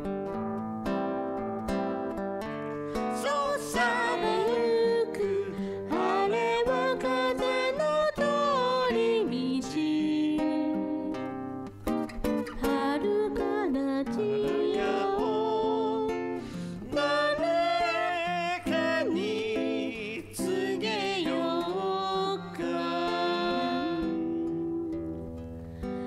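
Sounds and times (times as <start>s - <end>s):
acoustic guitar: 0.0s - 26.0s
person singing: 2.9s - 11.3s, 12.4s - 26.0s.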